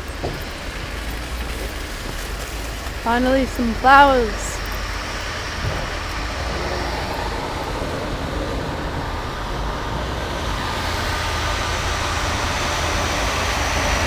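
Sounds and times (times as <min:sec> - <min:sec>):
car driving road noise: 0:00.0 - 0:14.0.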